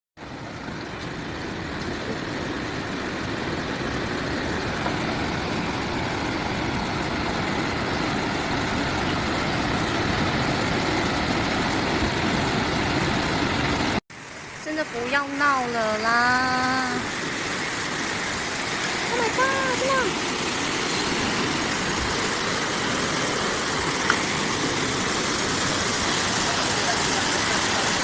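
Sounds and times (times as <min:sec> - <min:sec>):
floodwater rushing: 0:00.2 - 0:28.0.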